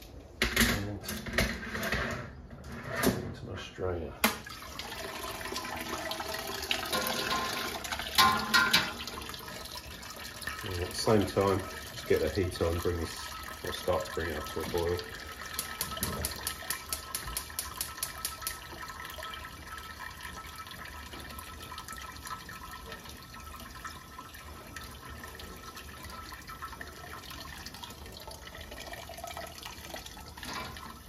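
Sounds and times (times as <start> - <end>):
liquid dripping into kettle: 4.3 - 31.0.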